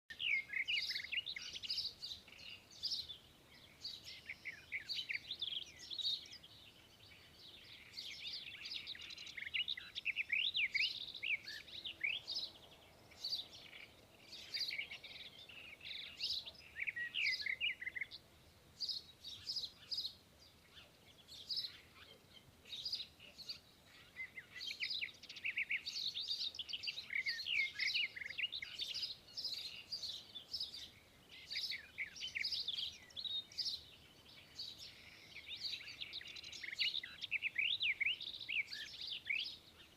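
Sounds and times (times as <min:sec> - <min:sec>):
small birds chirping: 0:00.1 - 0:39.9.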